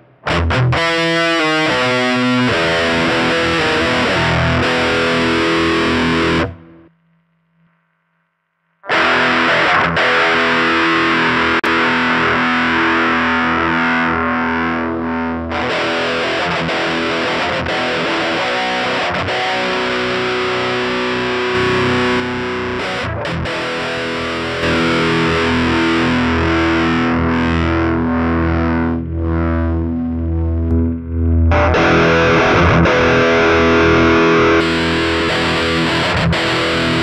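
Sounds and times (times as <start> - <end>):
distorted electric guitar chords: 0.0 - 7.0, 8.8 - 37.0.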